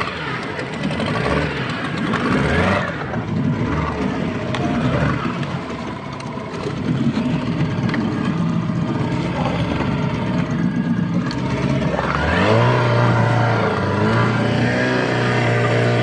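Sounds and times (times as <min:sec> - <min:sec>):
boat engine running and revving: 0:00.0 - 0:16.0.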